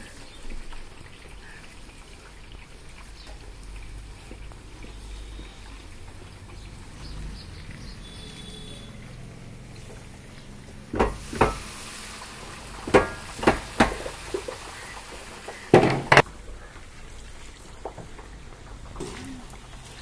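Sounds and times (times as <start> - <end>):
dough sizzling in hot oil: 0.0 - 20.0.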